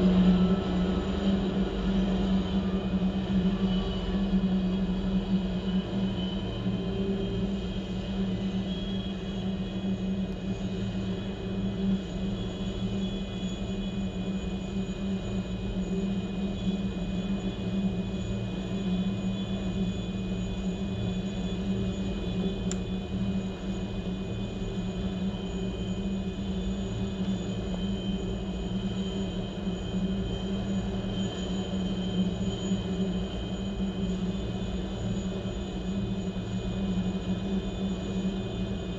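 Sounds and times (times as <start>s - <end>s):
helicopter engine and rotors: 0.0s - 38.9s
high turbine whine: 0.0s - 38.9s.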